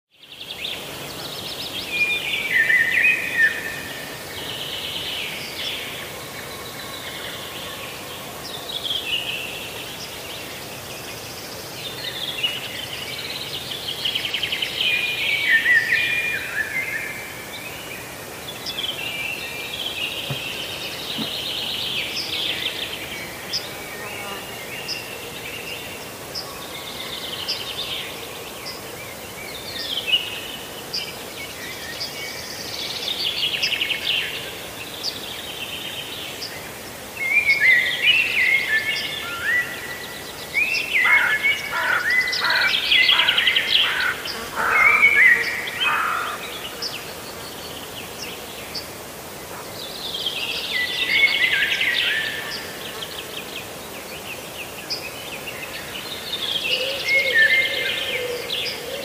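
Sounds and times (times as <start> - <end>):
songbirds chirping and trilling: 0.2 - 59.0.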